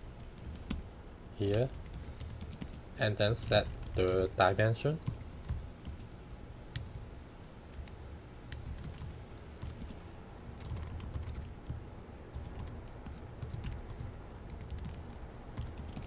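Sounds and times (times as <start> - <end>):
computer keyboard typing: 0.2 - 6.2, 6.8 - 7.0, 7.7 - 16.0.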